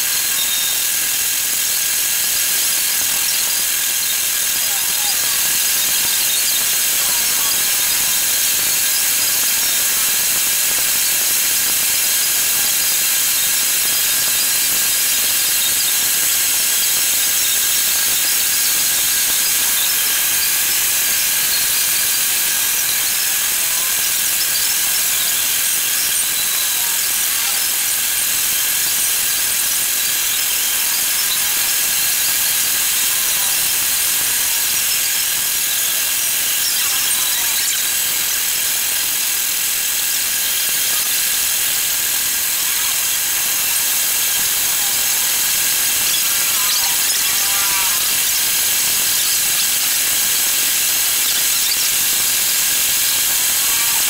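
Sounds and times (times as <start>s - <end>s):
milling cutter hissing on metal: 0.0s - 54.0s.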